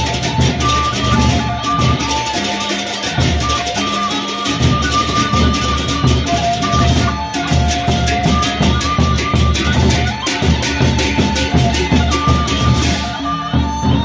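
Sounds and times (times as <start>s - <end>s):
barrel drums beating: 0.0s - 14.0s
cymbals clattering: 0.0s - 14.0s
held melodic notes: 0.0s - 14.0s.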